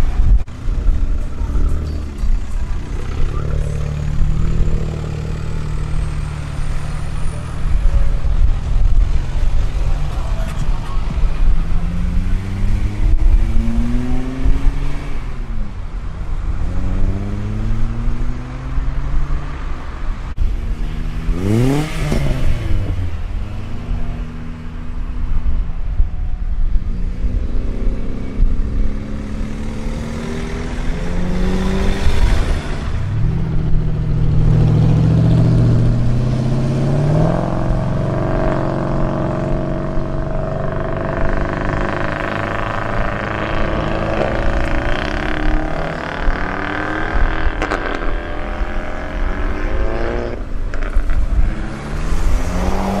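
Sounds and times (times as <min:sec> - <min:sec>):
car engines accelerating: 0:00.0 - 0:53.0.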